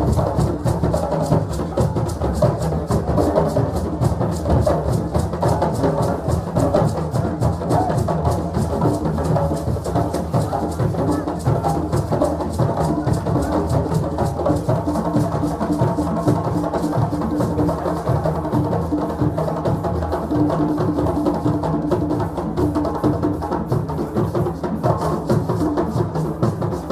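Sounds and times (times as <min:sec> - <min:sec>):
hand drums and percussion: 0:00.0 - 0:26.9.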